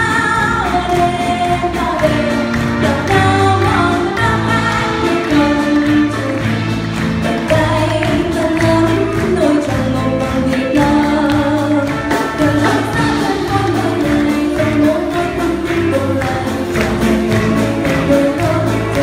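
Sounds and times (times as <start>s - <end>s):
small band with brass and saxophone: 0.0s - 19.0s
woman singing into microphone: 0.0s - 19.0s.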